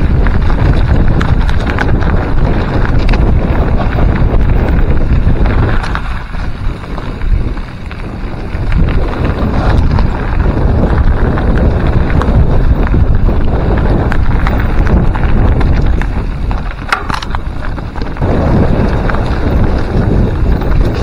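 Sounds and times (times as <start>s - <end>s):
mountain bike rattling over rocks: 0.0s - 21.0s
wind buffeting microphone: 0.0s - 21.0s.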